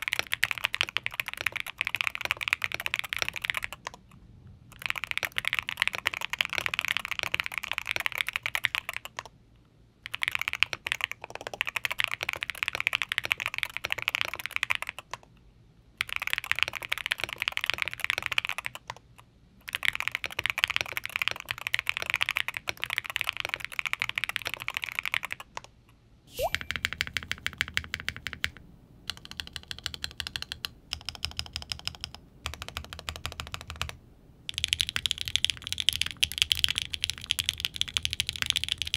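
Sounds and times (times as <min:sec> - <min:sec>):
fast typing on mechanical keyboard: 0:00.0 - 0:04.1, 0:04.7 - 0:09.3, 0:10.0 - 0:15.3, 0:16.0 - 0:19.0, 0:19.6 - 0:25.7, 0:26.6 - 0:38.9.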